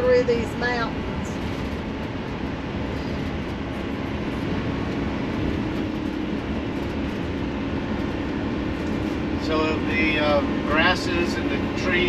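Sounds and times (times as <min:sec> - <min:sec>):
low steady hum: 0:00.0 - 0:12.0
road and engine drone: 0:00.0 - 0:12.0.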